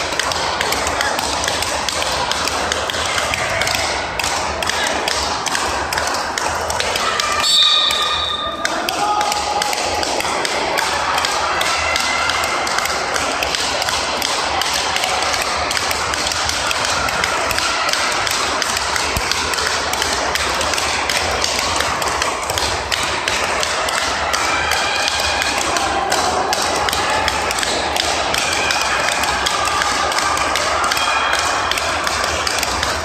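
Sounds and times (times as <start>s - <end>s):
background noise: 0.0s - 33.0s.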